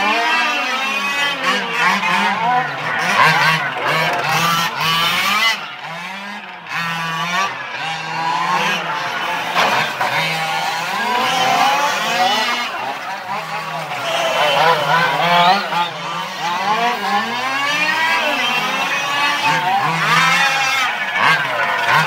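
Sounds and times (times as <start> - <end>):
model car engines revving: 0.0 - 22.0.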